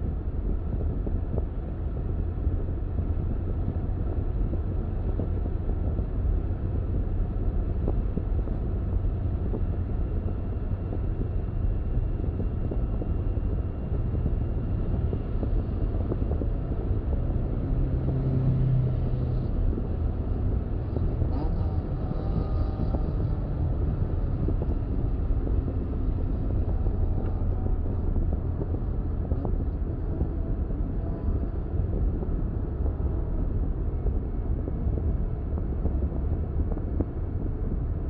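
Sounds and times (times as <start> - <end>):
low hum: 0.0 - 38.0
road and engine rumble: 0.0 - 38.0.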